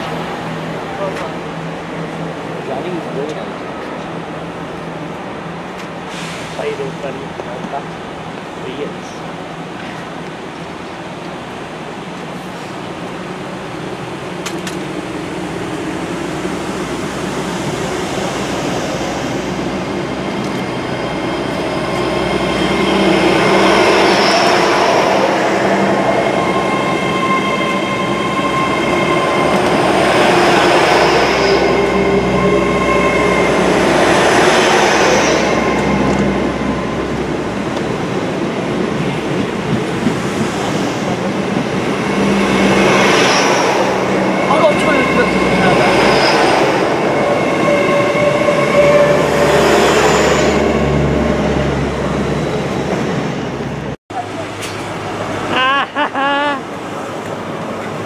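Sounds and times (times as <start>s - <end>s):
train wheels rumbling on rails: 0.0s - 55.5s
train whine: 0.0s - 58.0s.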